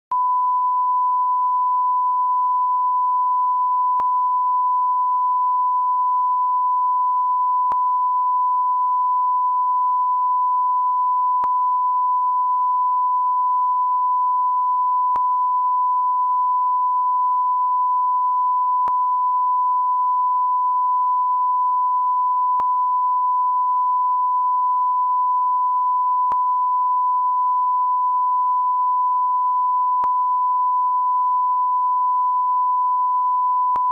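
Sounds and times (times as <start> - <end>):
continuous beep tone: 0.1 - 33.9.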